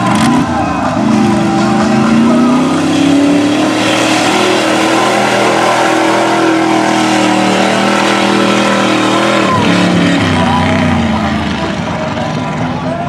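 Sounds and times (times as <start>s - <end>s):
truck engine at high revs: 0.0s - 13.0s
tyres churning mud: 0.0s - 13.0s.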